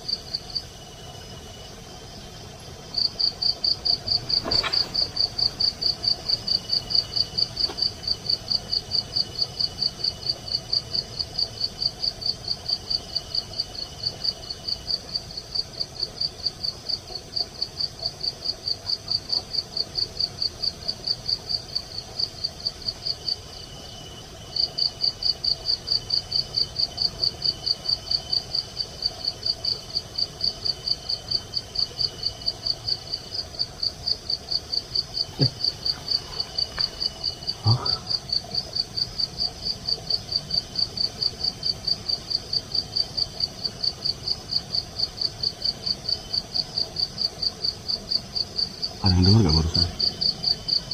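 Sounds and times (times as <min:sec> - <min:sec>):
faint lower insect trill: 0:00.0 - 0:50.9
insect chirping rapidly: 0:00.0 - 0:50.9.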